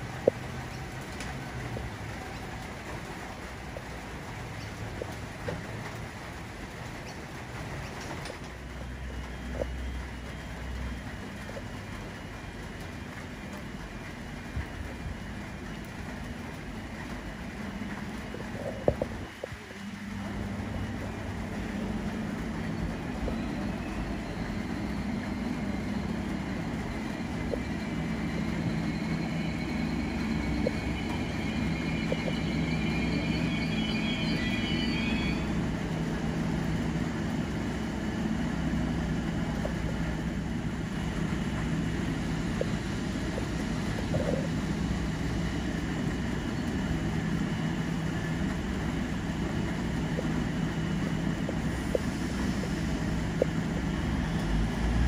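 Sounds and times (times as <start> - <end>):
railcar diesel engine drone: 0.0 - 55.0
high whine: 7.9 - 55.0.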